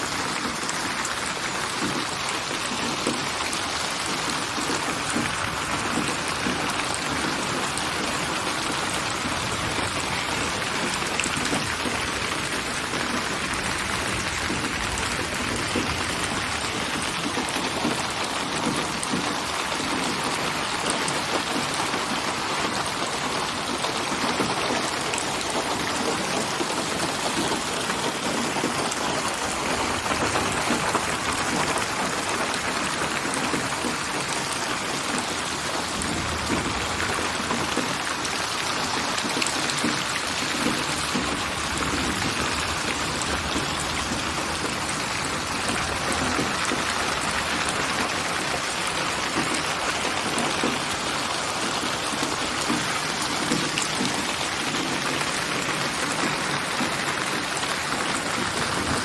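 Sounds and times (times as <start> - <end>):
rain patter: 0.0 - 59.0.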